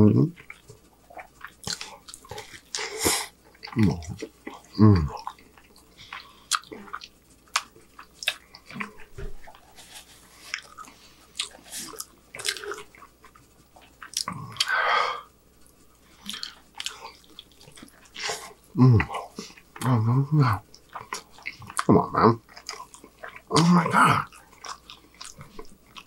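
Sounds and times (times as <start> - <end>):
man chewing: 0.2 - 26.0.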